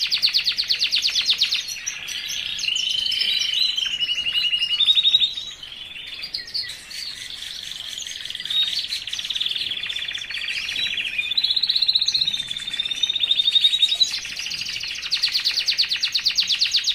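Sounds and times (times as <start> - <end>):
songbird trilling: 0.0 - 16.9.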